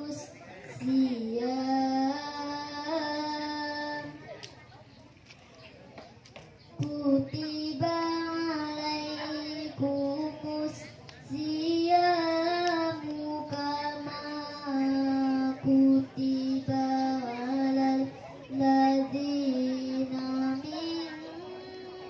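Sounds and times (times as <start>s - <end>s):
girl chanting into a microphone: 0.0s - 4.3s, 6.8s - 22.0s.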